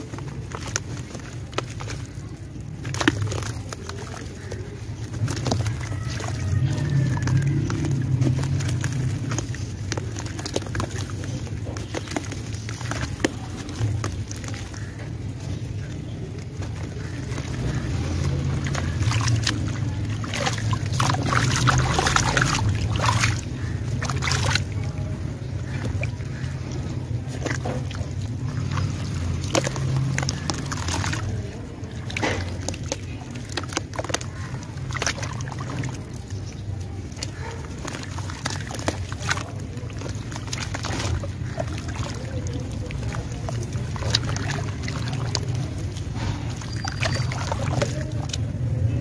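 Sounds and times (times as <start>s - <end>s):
dirt crumbling by hand: 0.0s - 48.6s
wet squelches and slaps: 0.0s - 49.0s.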